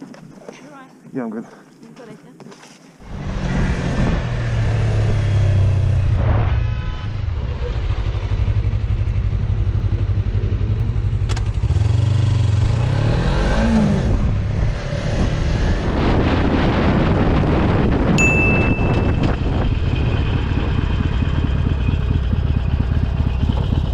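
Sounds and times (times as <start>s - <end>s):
motorcycle engine revving: 3.0s - 23.9s.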